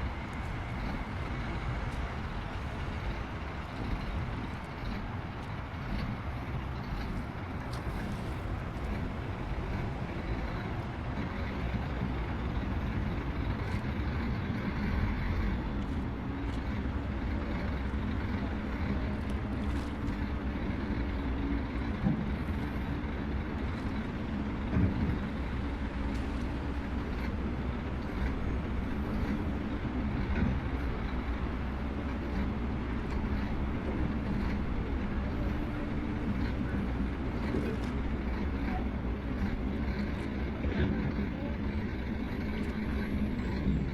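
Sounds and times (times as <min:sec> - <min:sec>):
heavy machinery diesel engines: 0:00.0 - 0:43.9.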